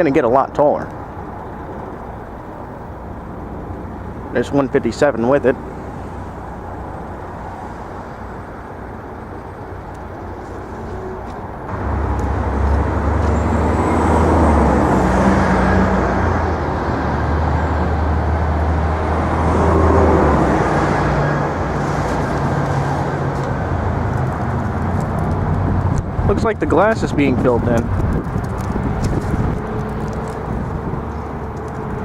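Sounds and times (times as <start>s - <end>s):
road traffic going by: 0.0s - 32.0s
vehicle engine rumble: 0.0s - 32.0s.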